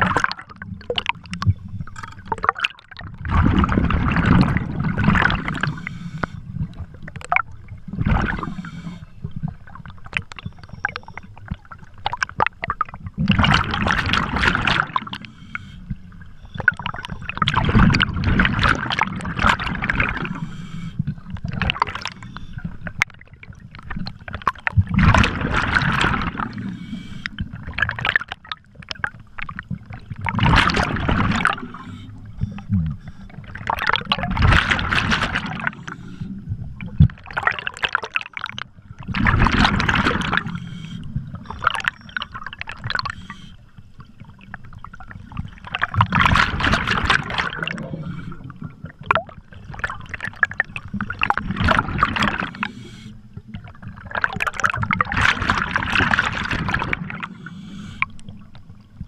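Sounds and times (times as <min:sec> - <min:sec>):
exhaled bubbles underwater: 0:00.0 - 0:59.0.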